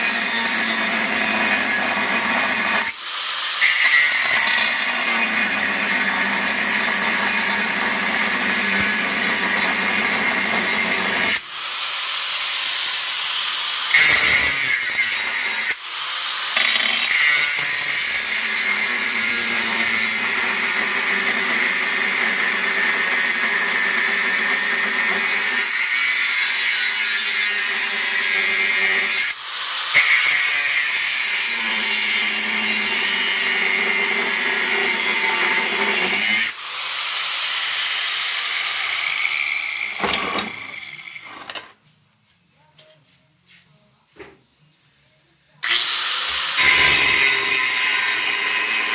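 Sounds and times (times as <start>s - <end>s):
power tool working steel plate: 0.0s - 41.7s, 45.6s - 48.9s.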